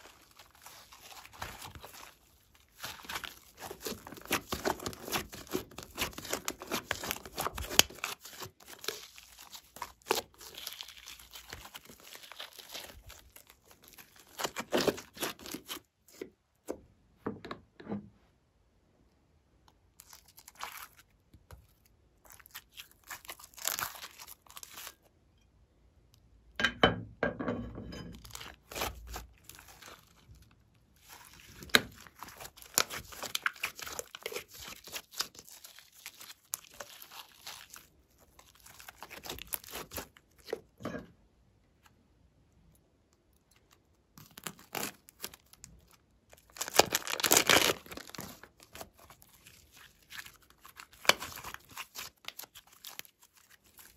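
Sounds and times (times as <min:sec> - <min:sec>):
slime crackling and tearing: 0:00.0 - 0:16.2, 0:20.0 - 0:25.1, 0:28.2 - 0:40.7, 0:43.3 - 0:53.9.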